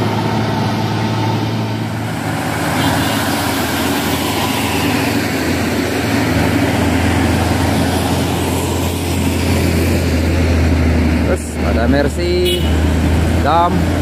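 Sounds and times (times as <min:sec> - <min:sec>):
truck engine droning: 0:00.0 - 0:14.0.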